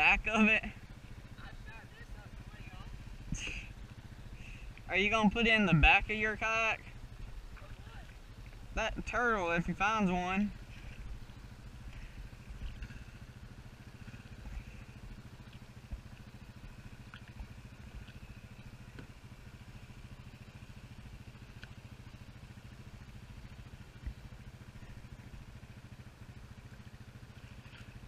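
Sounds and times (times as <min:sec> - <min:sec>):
faint atv engine running: 0:00.0 - 0:28.0.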